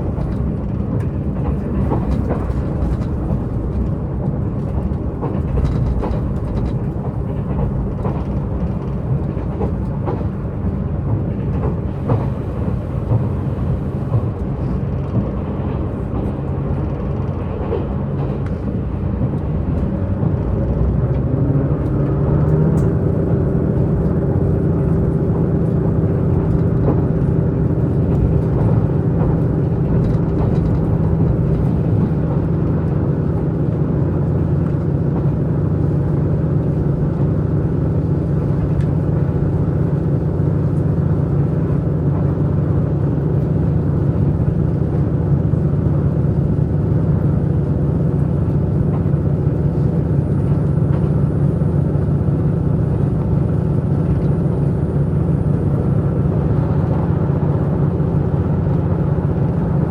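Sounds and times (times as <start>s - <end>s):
diesel engine rumble: 0.0s - 59.9s
train wheels on rails: 0.0s - 59.9s.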